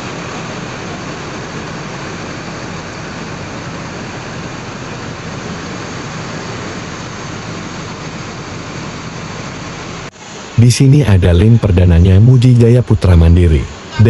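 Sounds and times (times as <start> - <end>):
bus engines idling: 0.0 - 14.0.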